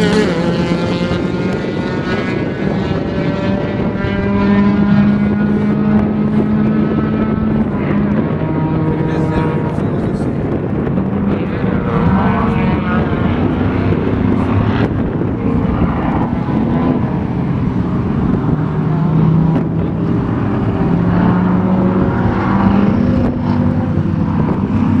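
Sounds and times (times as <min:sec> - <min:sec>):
racing car engines revving: 0:00.0 - 0:25.0.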